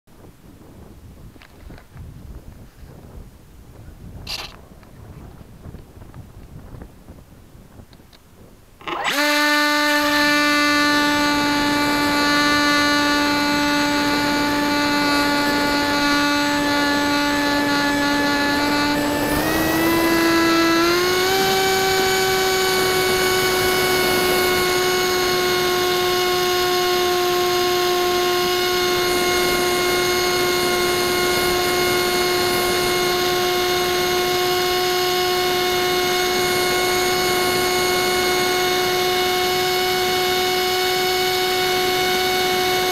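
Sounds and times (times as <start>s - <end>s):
electric motor and propeller whine: 4.2s - 4.6s, 8.8s - 42.9s.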